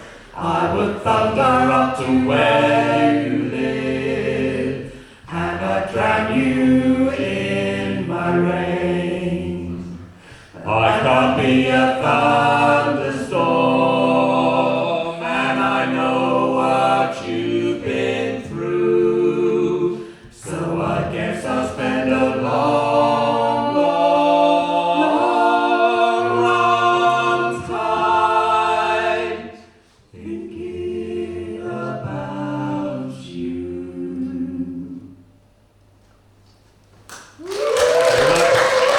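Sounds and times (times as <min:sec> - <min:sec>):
vocal group singing in harmony: 0:00.0 - 0:35.4.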